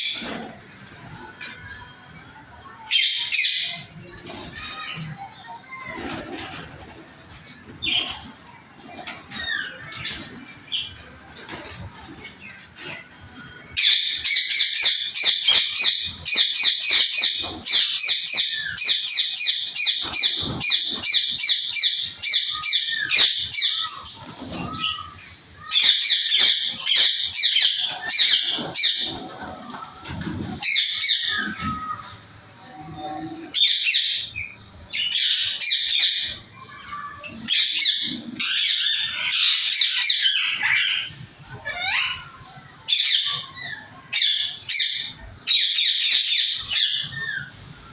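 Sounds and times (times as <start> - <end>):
small birds chirping and chattering: 0.0 - 47.9.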